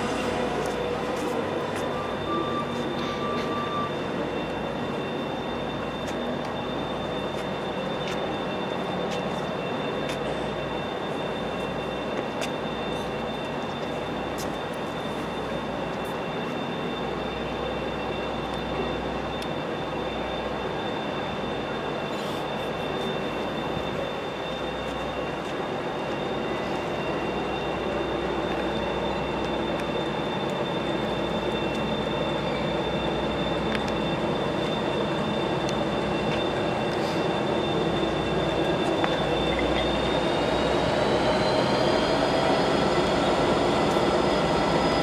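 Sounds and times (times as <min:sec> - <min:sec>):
high-pitched whine: 0:00.0 - 0:45.0
standing train running noise: 0:00.0 - 0:45.0.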